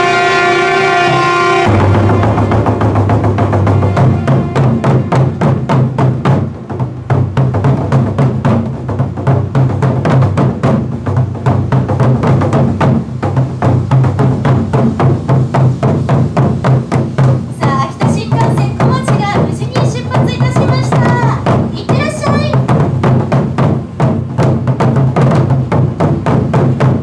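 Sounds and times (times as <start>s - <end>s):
taiko drums beaten fast: 0.0s - 27.0s.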